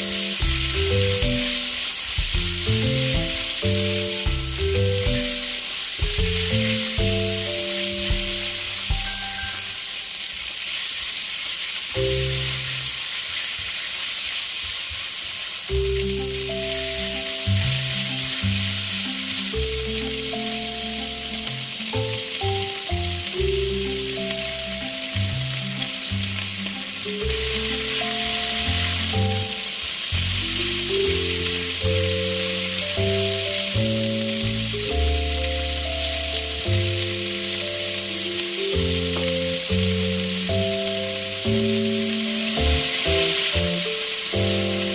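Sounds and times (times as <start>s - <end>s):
background music: 0.0s - 9.7s, 15.7s - 44.9s
food sizzling in hot oil: 0.0s - 44.9s.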